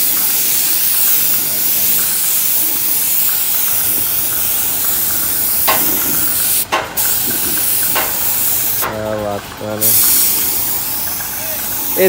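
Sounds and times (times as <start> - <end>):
spray gun hissing: 0.0 - 8.9, 9.8 - 12.0.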